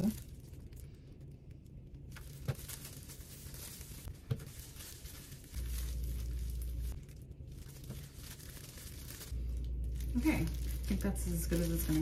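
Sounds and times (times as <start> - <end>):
low rumble: 0.0 - 12.0
plastic gloves rustling: 0.0 - 12.0.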